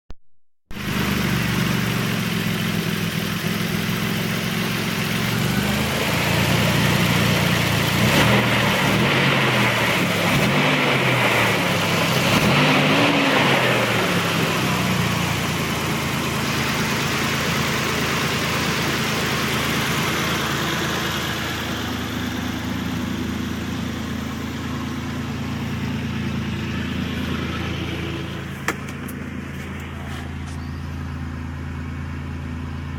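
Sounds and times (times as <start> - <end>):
truck engine idling and revving: 0.7 - 32.9.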